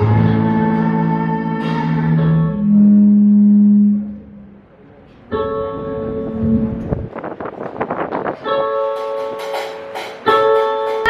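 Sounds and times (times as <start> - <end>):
held keyboard chord: 0.0 - 4.7, 5.3 - 7.2, 8.0 - 11.0.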